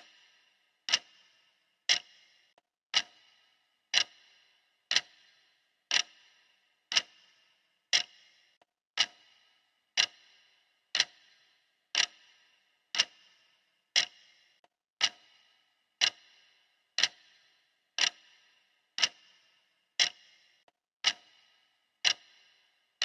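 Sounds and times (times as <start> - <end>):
clock ticking: 0.0 - 22.9.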